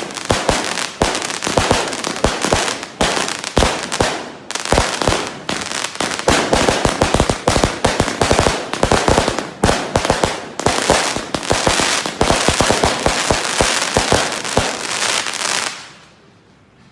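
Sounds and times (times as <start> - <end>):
crackling bangs: 0.0 - 16.0
fireworks cake firing: 0.0 - 16.0.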